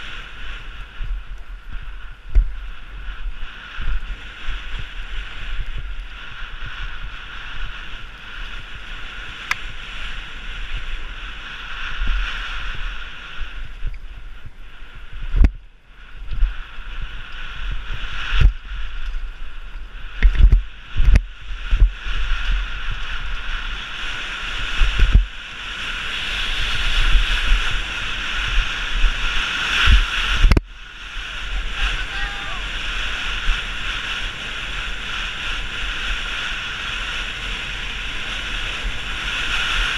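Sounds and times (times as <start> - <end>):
wind and tyre noise: 0.0 - 39.9
wind buffeting microphone: 0.0 - 39.9.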